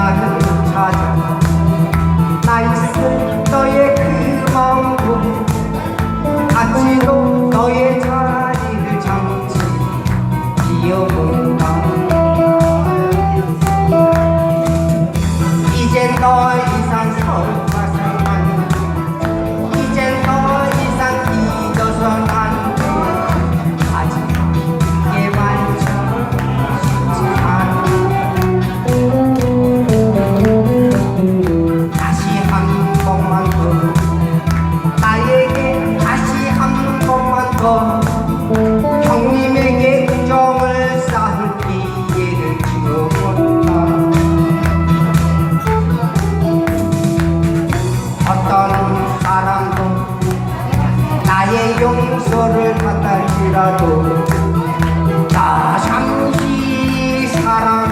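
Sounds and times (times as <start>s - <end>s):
fast disco backing music: 0.0s - 57.9s.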